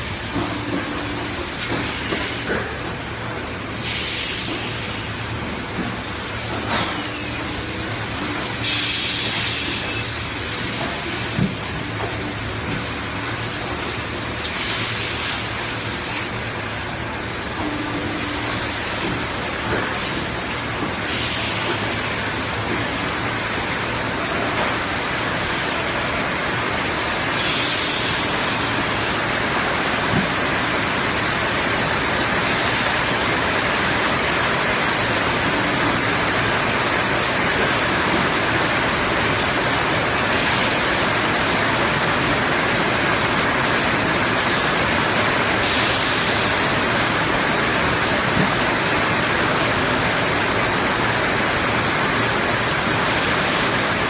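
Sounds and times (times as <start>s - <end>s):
blow-forming machine hissing: 0.0s - 54.0s.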